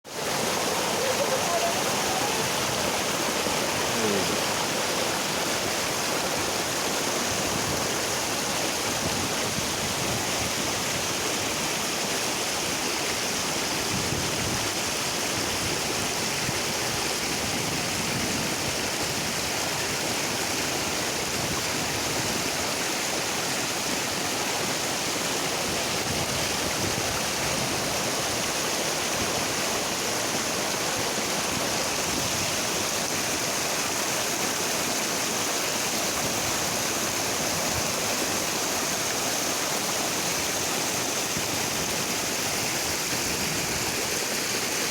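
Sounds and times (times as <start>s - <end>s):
waterfall rushing and splashing: 0.0s - 44.9s.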